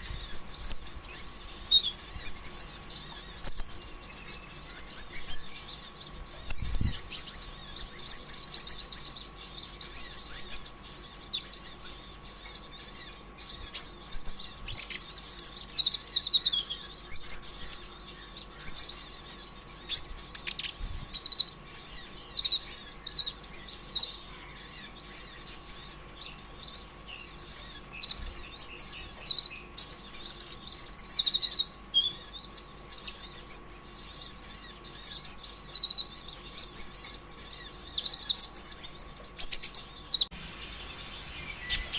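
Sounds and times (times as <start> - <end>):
faint steady hum: 0.0 - 41.9
sunbird twittering song: 0.0 - 41.9.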